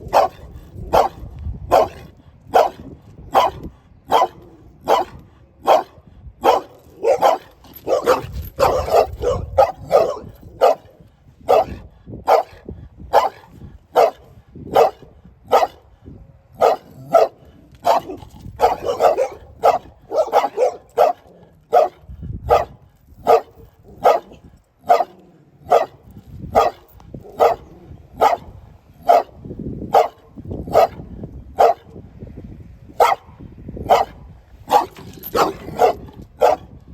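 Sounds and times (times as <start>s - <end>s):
dog barking: 0.0s - 15.8s, 16.6s - 31.0s, 31.6s - 31.9s, 33.0s - 36.7s.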